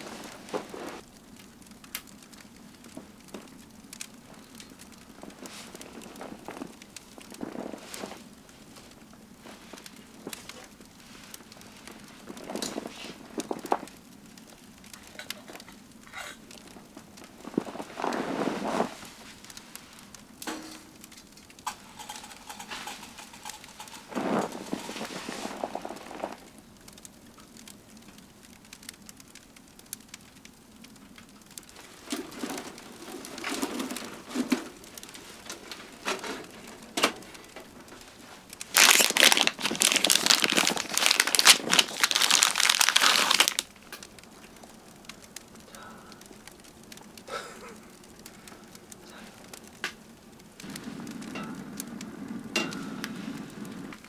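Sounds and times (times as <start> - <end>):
crinkling rustling noise: 0.0 - 54.0.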